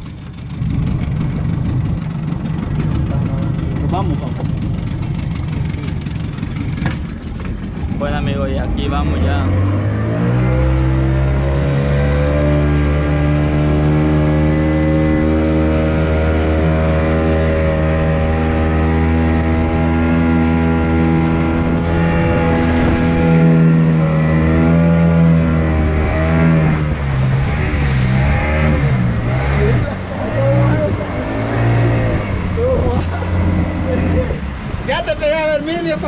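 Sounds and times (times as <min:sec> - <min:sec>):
hull rushing through water: 0:00.0 - 0:36.0
outboard motor running: 0:00.0 - 0:36.0.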